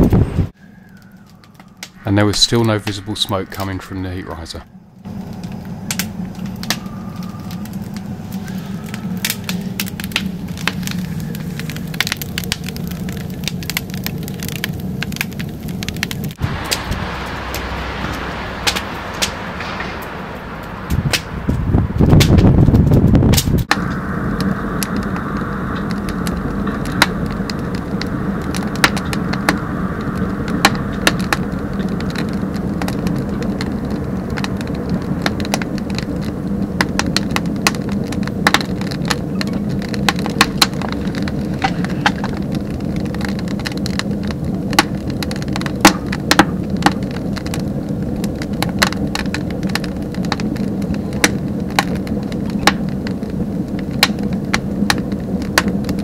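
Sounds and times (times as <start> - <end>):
rush of fire draft: 0.0 - 56.0
wood crackling and popping: 0.0 - 56.0.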